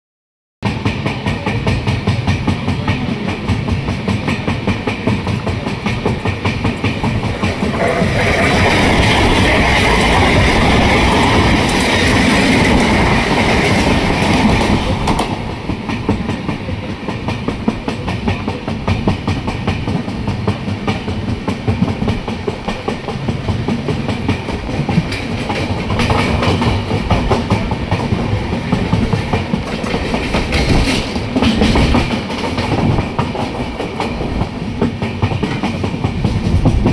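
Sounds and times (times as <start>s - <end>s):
train rumble: 0.6s - 36.9s
wheels clattering over rails: 1.1s - 36.9s.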